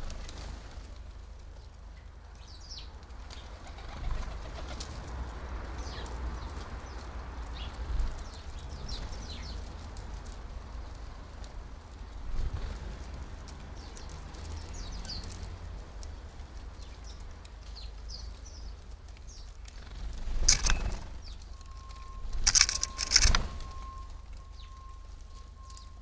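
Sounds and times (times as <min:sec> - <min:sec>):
sparrows chirping: 0:01.5 - 0:04.9, 0:05.8 - 0:11.2, 0:13.8 - 0:26.0.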